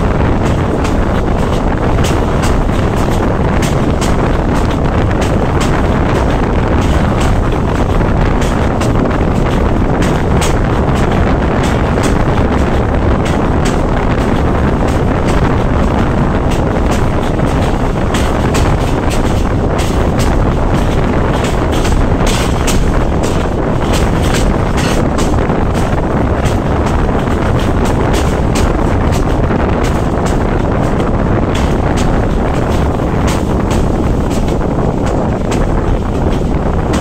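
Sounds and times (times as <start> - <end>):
railcar engine and wheels rumbling: 0.0 - 37.0
sharp clicks and clatters: 0.2 - 37.0.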